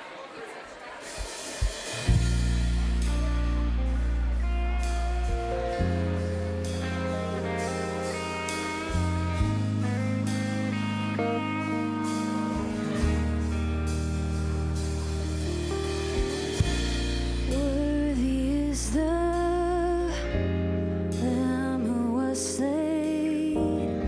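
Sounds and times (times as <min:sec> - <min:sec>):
worship band playing: 0:00.0 - 0:20.4
low bass chords: 0:02.0 - 0:24.0
picked guitar-like melody: 0:02.1 - 0:24.0.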